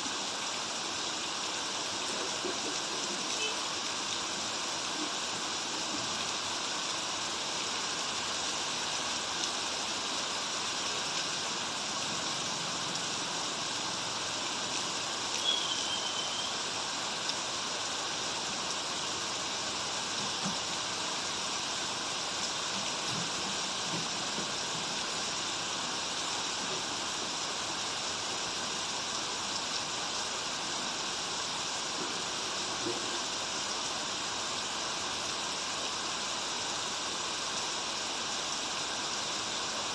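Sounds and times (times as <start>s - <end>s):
steady rain: 0.0s - 39.9s
running creek water: 0.1s - 39.9s.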